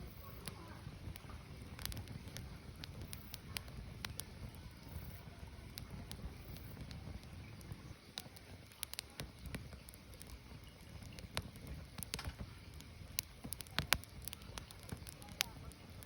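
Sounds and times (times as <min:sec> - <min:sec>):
firewood crackling and popping: 0:00.0 - 0:16.0
low rumble of flame: 0:00.0 - 0:16.0.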